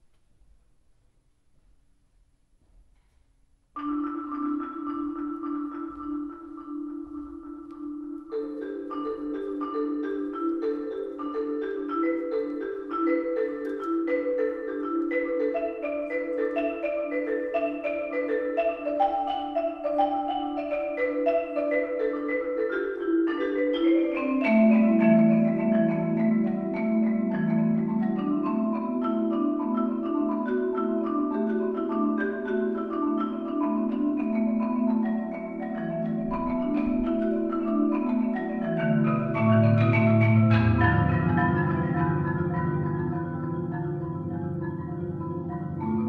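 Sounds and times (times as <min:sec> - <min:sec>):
marimbas playing fast patterns: 0:03.5 - 0:46.0.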